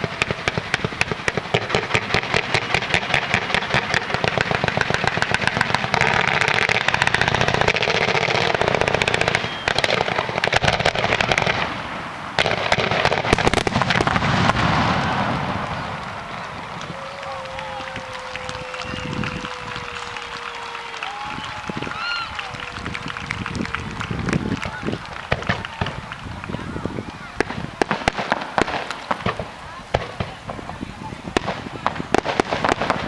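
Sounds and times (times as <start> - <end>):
fireworks bangs and crackling: 0.0 - 33.0.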